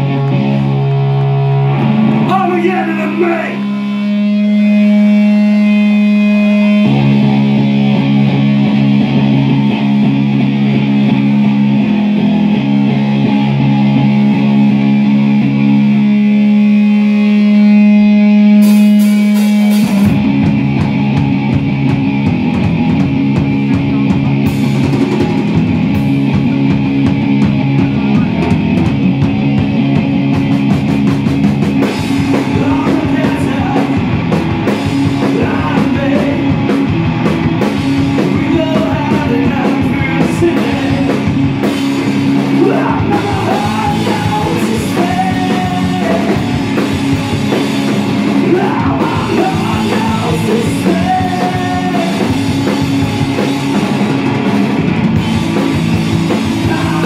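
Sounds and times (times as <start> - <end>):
electric guitar sustained chords: 0.0 - 57.0
rock band playing: 0.0 - 57.0.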